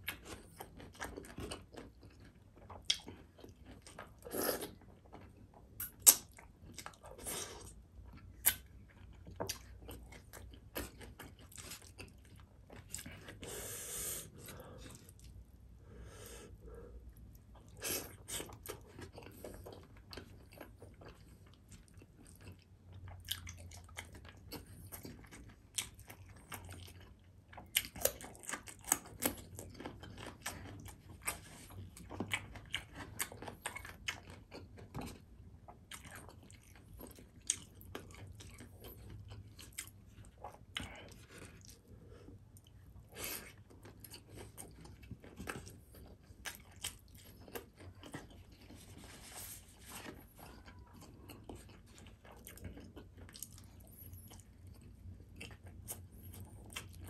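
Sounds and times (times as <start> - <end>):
close chewing and mouth sounds: 0.0 - 57.0.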